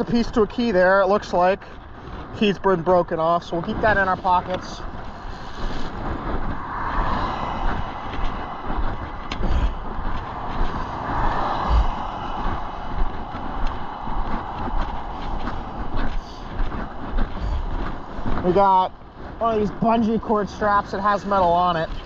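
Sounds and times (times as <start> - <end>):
cars passing close by: 3.8 - 22.0.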